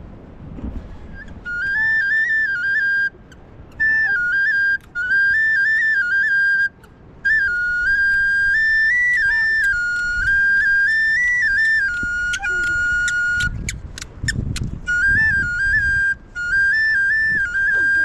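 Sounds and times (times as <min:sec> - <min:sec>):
high-pitched flute melody: 0:01.1 - 0:18.0.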